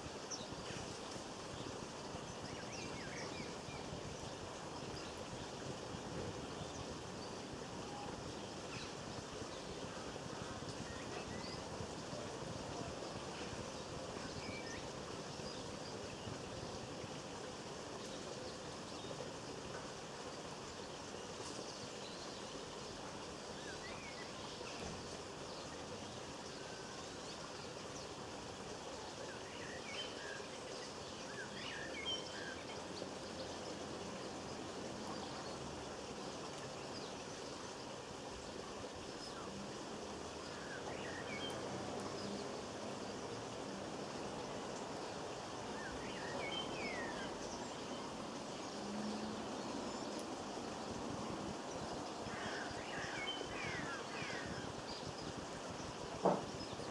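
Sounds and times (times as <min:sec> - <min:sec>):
outdoor background hiss: 0:00.0 - 0:56.9
small birds chirping: 0:00.0 - 0:56.9.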